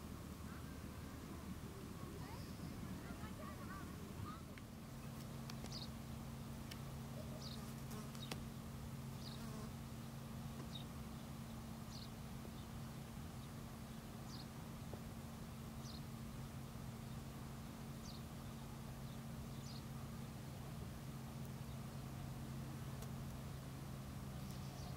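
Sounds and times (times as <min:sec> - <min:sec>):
steady low buzz: 0:00.0 - 0:24.9.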